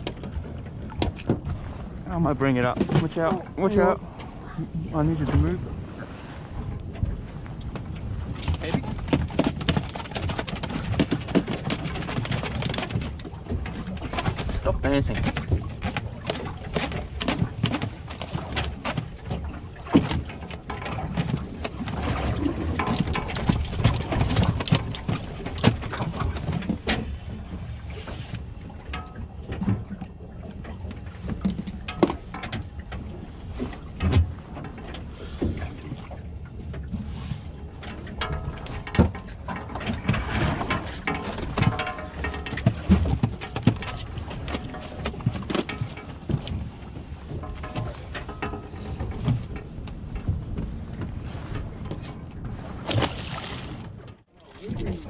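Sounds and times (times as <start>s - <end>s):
wind and water rumble: 0.0s - 55.0s.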